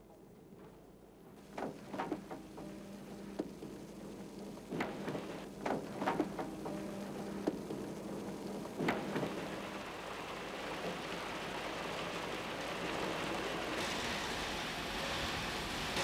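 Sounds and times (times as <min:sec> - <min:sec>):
machine hum: 0:01.4 - 0:16.0.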